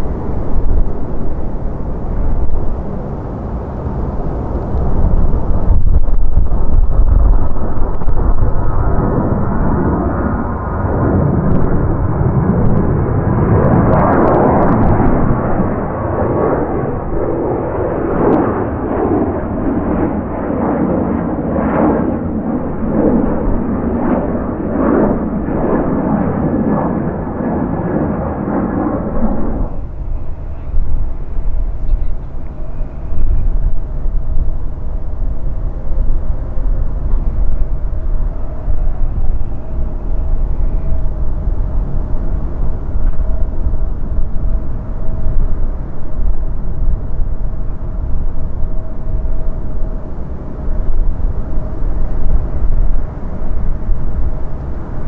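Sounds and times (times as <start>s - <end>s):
jet engine rumbling: 0.0s - 55.0s
low rumble with gusty noise: 0.0s - 55.0s.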